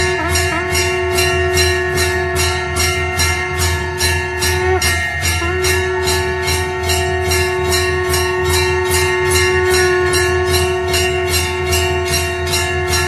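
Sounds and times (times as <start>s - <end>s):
steady held tone: 0.0s - 13.0s
temple bells ringing: 0.0s - 13.0s.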